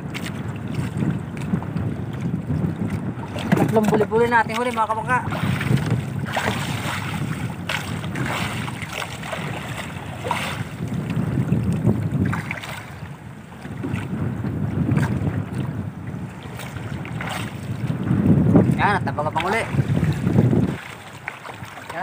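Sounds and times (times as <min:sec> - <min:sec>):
water lapping against boat: 0:00.0 - 0:22.0
wind buffeting microphone: 0:00.0 - 0:22.0.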